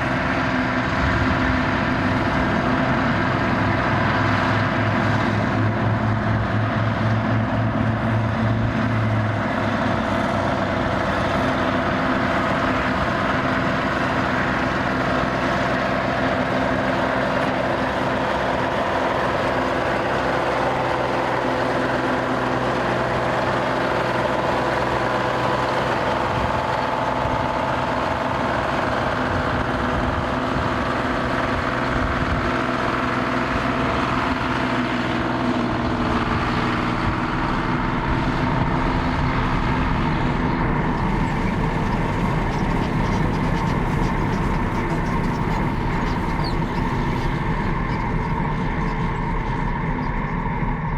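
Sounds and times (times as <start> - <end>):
road grader engine running: 0.0 - 50.9.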